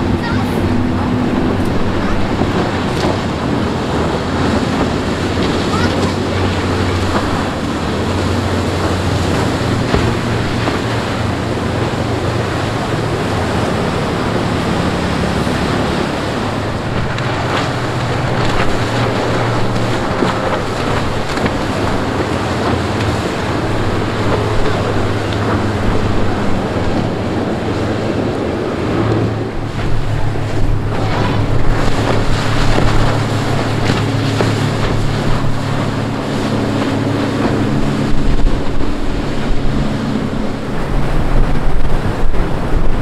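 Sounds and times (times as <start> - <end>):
powerboat engines droning: 0.0 - 43.0
water and wake hiss: 0.0 - 43.0
wind buffeting microphone: 0.0 - 43.0.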